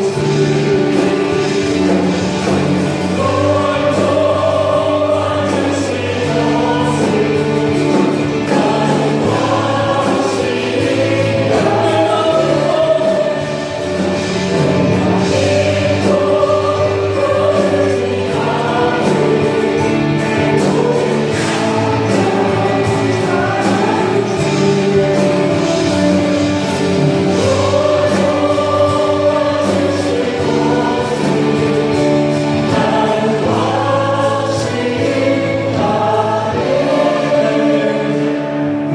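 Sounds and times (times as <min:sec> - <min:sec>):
band accompaniment: 0:00.0 - 0:38.9
congregation singing a hymn: 0:00.0 - 0:38.9
drum beats: 0:00.0 - 0:38.9.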